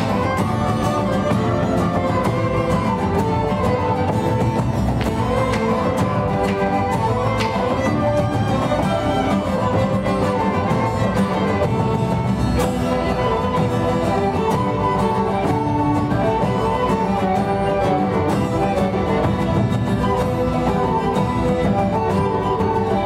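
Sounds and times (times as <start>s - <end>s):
acoustic guitar: 0.0s - 23.0s
cello: 0.0s - 23.0s
hand drums beat: 0.0s - 23.0s
violins playing melody: 0.0s - 23.0s
wind instruments: 0.0s - 23.0s.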